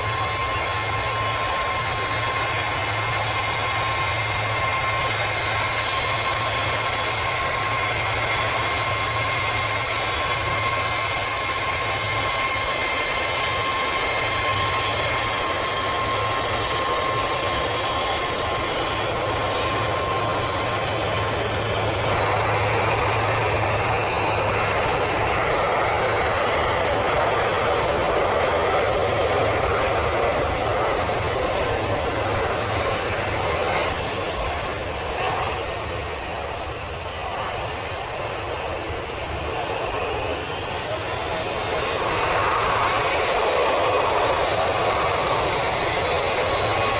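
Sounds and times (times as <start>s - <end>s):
jet engine low rumble: 0.0s - 46.9s
jet engines whining: 0.0s - 46.9s.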